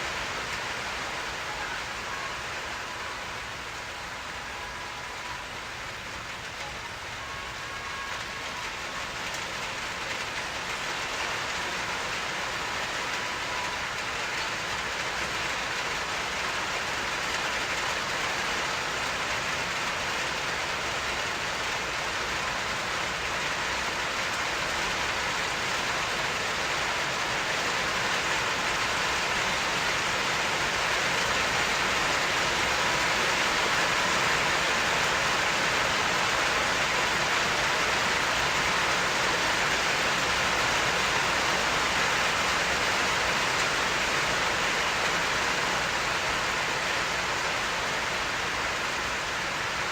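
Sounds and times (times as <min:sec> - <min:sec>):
steady rainfall: 0:00.0 - 0:49.9.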